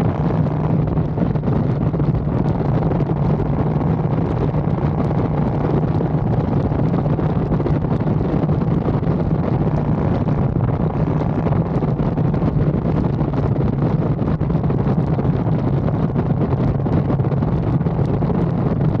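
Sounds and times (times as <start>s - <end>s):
motorcycle engine cruising: 0.0s - 19.0s
wind buffeting microphone: 0.0s - 19.0s.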